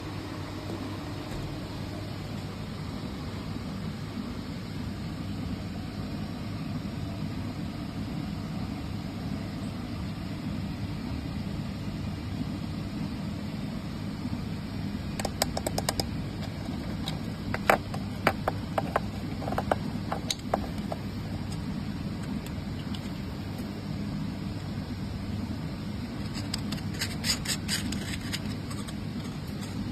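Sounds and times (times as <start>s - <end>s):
printer fan and motor hum: 0.0s - 29.9s.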